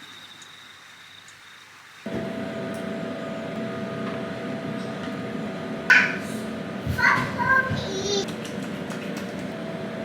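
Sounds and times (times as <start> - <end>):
machine hum with constant tone: 0.0 - 10.0.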